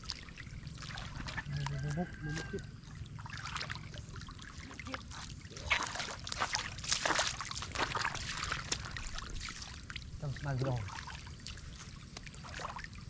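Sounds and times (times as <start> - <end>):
shallow water trickling: 0.0 - 13.0
water splashing: 0.0 - 13.0.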